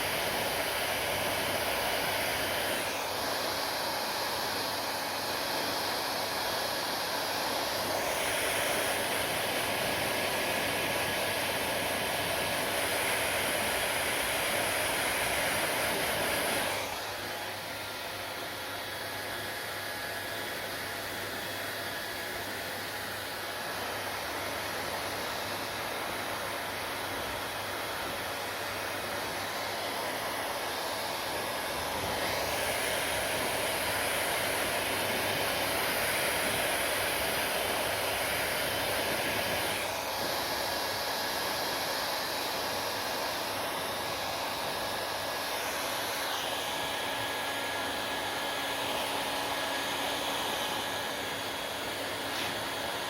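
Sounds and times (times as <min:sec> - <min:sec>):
hair dryer blowing: 0:00.0 - 0:53.0.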